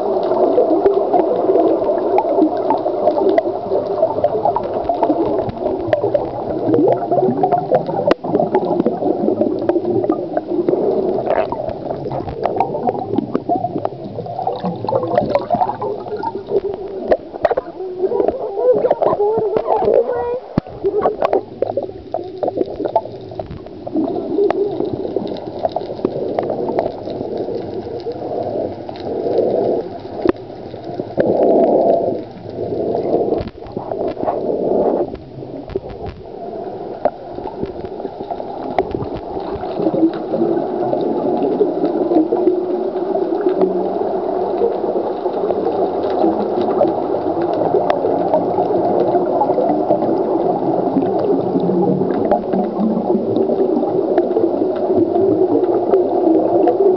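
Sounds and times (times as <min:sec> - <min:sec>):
underwater gurgling and bubbling: 0:00.0 - 0:56.9.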